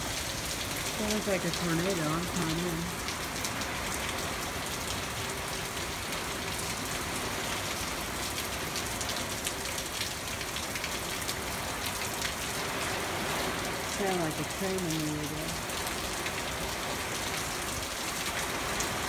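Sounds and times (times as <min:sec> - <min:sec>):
rain: 0:00.0 - 0:19.0.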